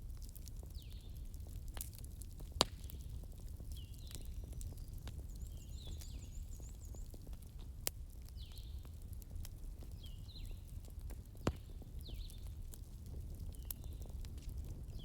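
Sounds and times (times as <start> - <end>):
fire popping: 0.0 - 15.0
low rumble of flames: 0.0 - 15.0
wood logs crackling: 0.0 - 15.0.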